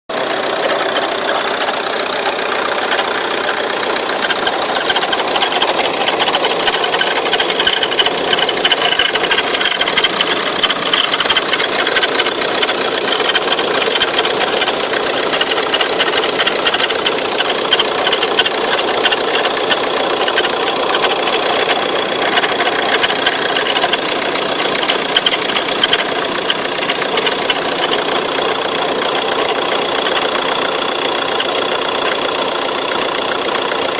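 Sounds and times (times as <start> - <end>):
fast rattling and rubbing: 0.1 - 33.9
van engine running: 0.1 - 33.9.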